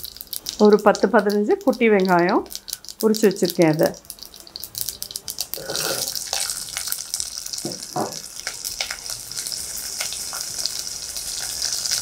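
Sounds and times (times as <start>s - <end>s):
shallots sizzling in hot oil: 0.0s - 12.0s.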